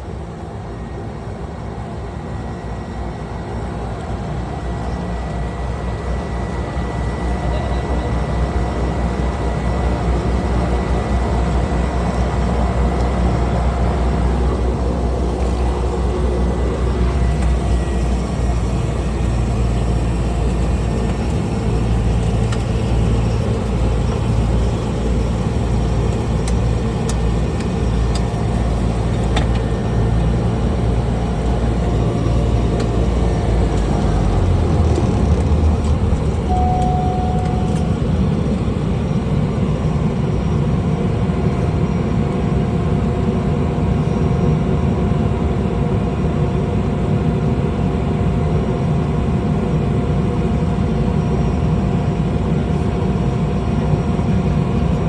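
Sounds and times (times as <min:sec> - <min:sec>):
small plane engine drone: 0:00.0 - 0:55.0.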